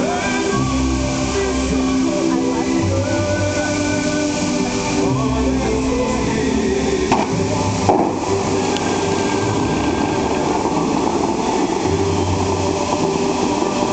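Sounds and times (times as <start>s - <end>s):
fountain water jets rushing: 0.0s - 13.9s
music from loudspeakers: 0.0s - 13.9s.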